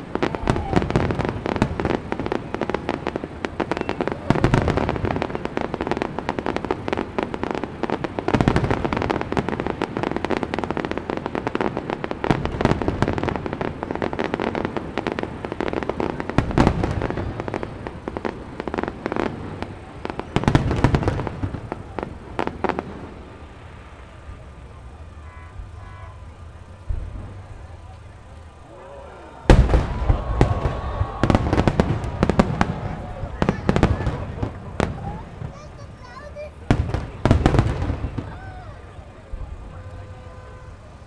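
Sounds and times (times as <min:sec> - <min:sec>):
crackling firework bursts: 0:00.0 - 0:41.0
firework booms: 0:00.0 - 0:41.0.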